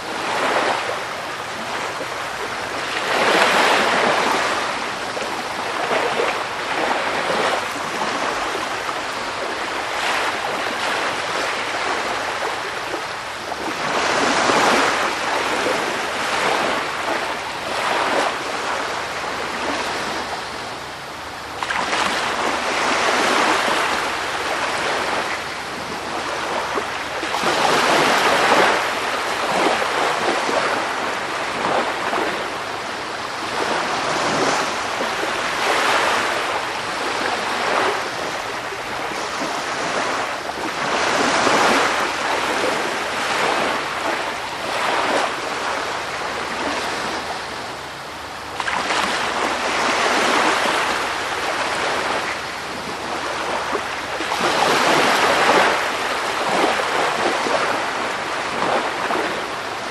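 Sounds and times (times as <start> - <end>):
waves washing in: 0.0 - 59.9.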